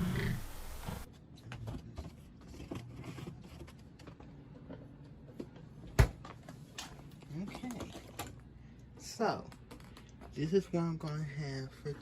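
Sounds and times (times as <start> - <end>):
small handling clicks and rustles: 1.3 - 11.3.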